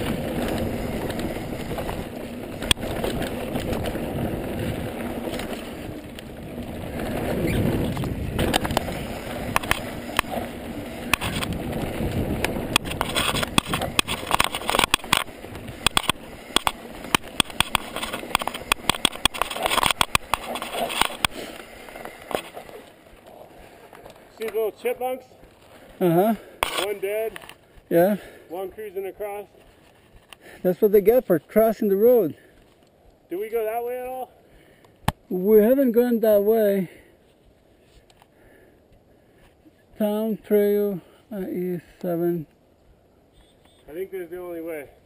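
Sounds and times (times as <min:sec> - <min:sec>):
bike tyres rolling over dirt: 0:00.0 - 0:43.1
bike rattling over rough ground: 0:00.0 - 0:45.0.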